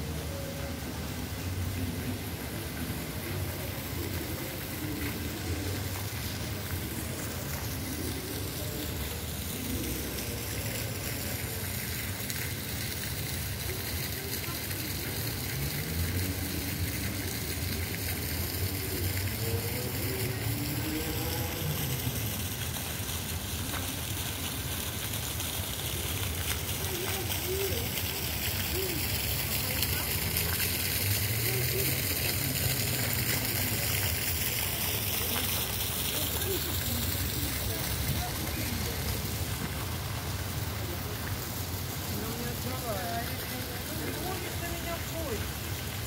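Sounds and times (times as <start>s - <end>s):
distant voices: 0.0s - 46.0s
steady hiss: 0.0s - 46.0s.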